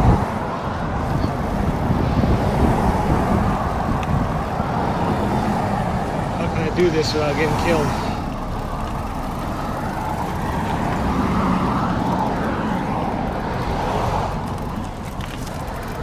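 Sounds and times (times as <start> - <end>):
car passing by: 0.0 - 16.0.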